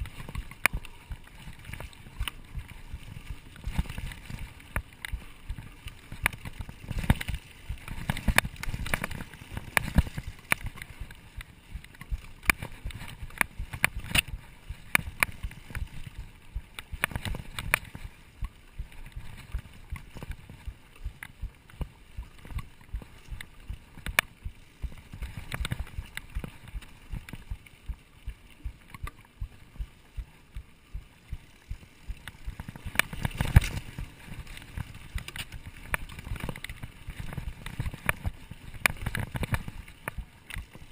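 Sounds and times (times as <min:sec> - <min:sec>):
bike clicks and rattles: 0:00.0 - 0:40.9
bike tyres rumbling on dirt: 0:00.0 - 0:40.9.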